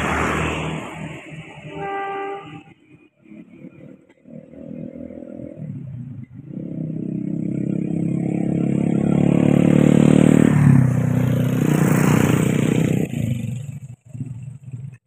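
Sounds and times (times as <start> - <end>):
motorcycle passing by: 0.0 - 1.8, 3.2 - 15.0.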